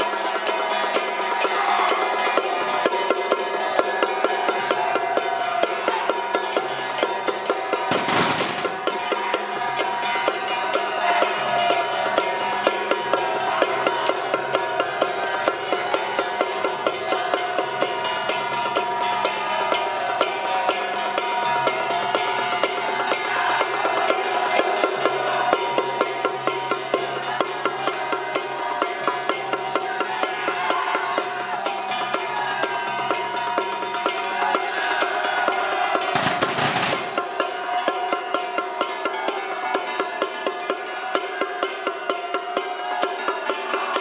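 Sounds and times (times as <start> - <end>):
drum beating: 0.0 - 44.0.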